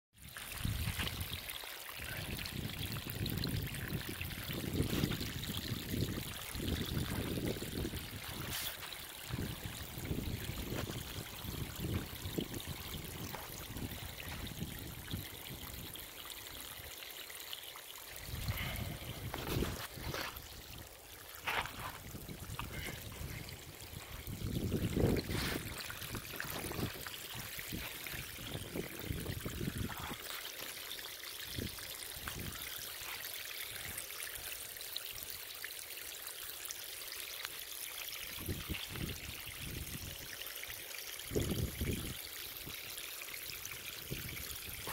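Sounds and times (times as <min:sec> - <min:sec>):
water spraying and trickling: 0:00.2 - 0:44.9.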